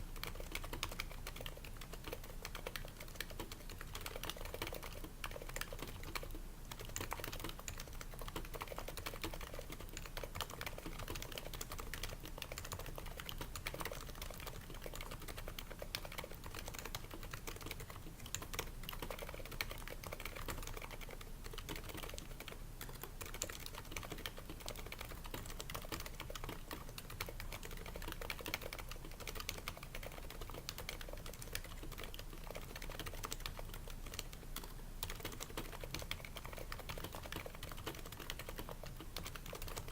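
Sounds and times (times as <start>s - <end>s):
keyboard typing: 0.2s - 39.9s.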